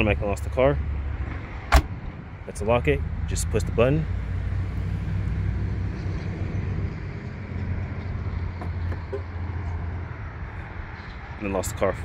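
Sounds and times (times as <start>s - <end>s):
vehicle engine humming: 0.0s - 11.6s.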